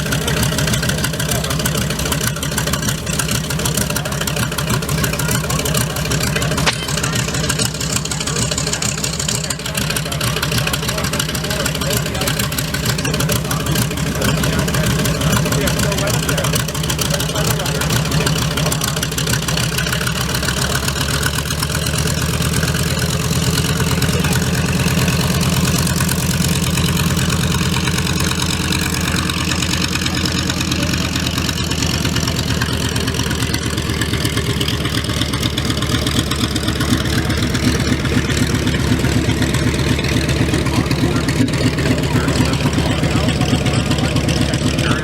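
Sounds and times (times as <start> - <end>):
piston aircraft engine rumbling: 0.0 - 45.0.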